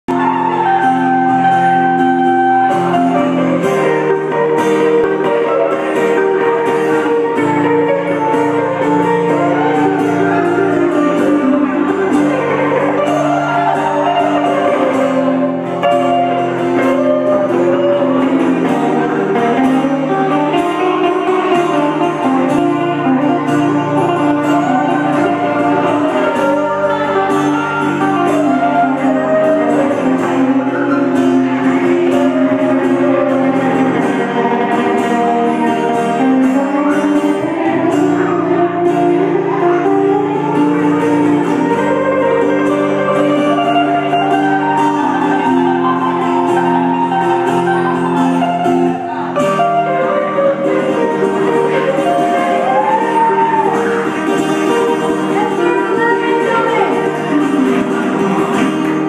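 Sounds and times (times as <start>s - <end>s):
electric guitar instrumental: 0.0s - 59.0s.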